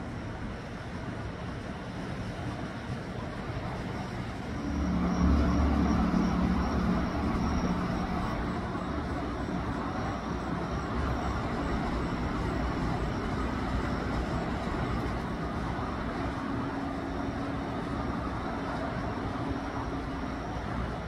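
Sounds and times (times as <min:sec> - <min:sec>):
road vehicle rumble: 0:03.7 - 0:21.0.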